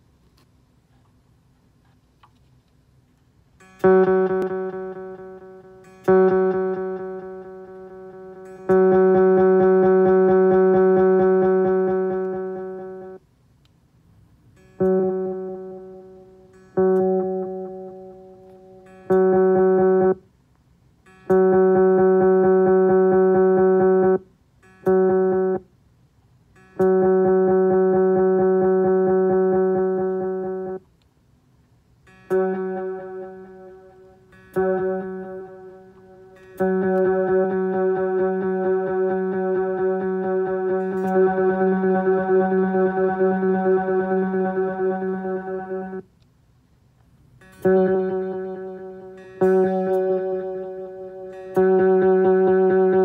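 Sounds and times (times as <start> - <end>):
guitar note with pulsing delay echoes: 3.6 - 13.2, 14.6 - 20.2, 21.1 - 25.7, 26.6 - 30.8, 32.1 - 46.1, 47.4 - 53.0.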